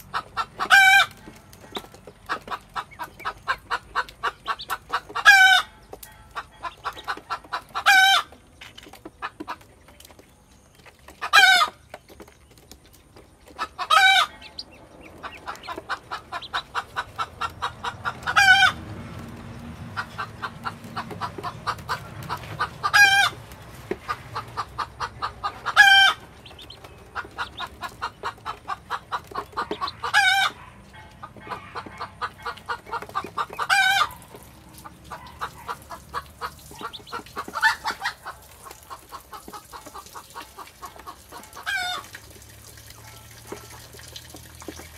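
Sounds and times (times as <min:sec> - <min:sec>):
chicken clucking: 0:00.0 - 0:42.1.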